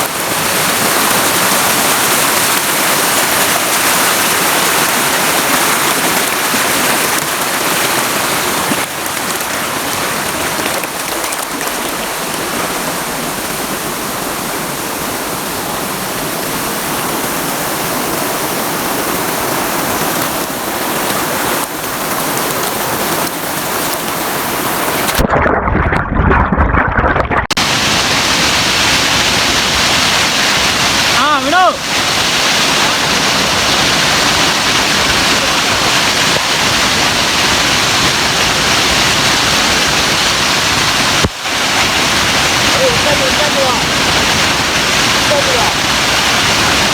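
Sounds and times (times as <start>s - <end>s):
waterfall rushing and splashing: 0.0s - 25.3s, 27.5s - 46.9s.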